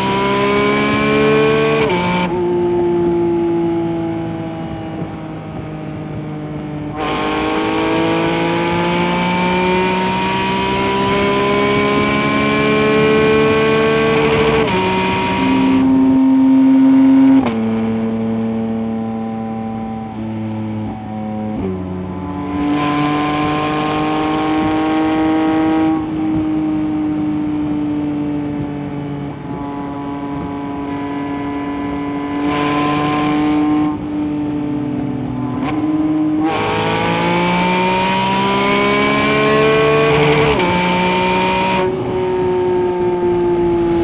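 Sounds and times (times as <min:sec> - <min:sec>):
car engine revving at high revs: 0:00.0 - 0:44.0.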